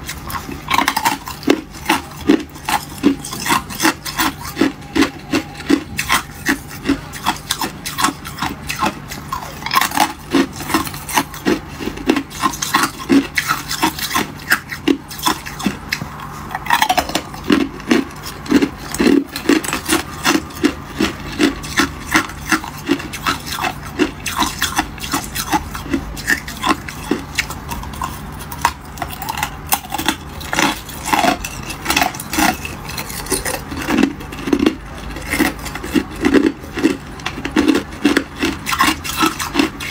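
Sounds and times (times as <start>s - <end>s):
ice cubes crunching: 0.0s - 39.9s.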